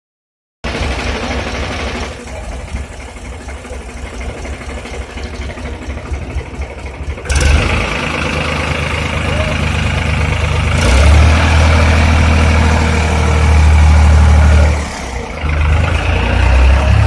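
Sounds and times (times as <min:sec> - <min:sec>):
tractor diesel engine idling: 0:00.6 - 0:17.0.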